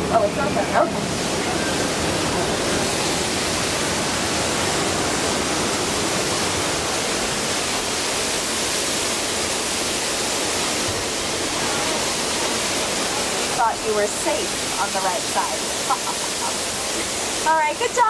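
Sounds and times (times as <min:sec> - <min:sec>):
torrent of water rushing: 0:00.0 - 0:18.0.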